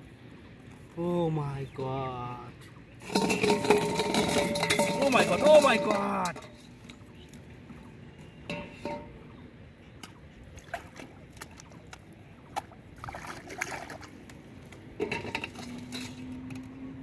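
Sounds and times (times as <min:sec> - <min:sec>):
pond water splashing: 0:02.6 - 0:16.4.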